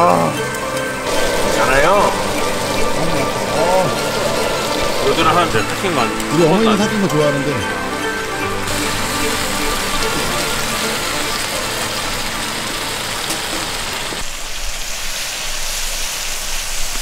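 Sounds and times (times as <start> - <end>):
meat sizzling on griddle: 1.0 - 7.1, 8.3 - 17.0.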